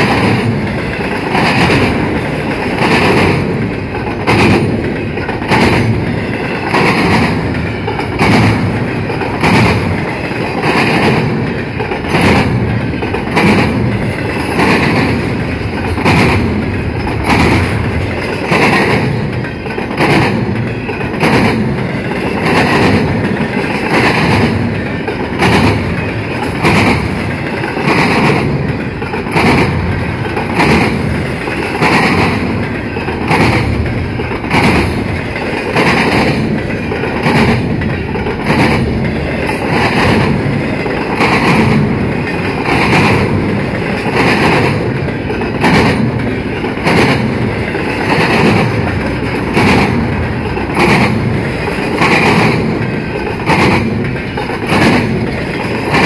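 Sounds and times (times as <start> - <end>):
freight train rolling past: 0.0 - 56.0
wheels clacking over rails: 0.0 - 56.0.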